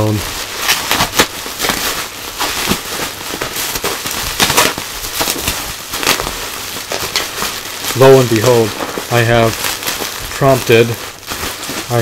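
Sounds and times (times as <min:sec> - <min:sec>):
bubble wrap crackling: 0:00.0 - 0:12.0.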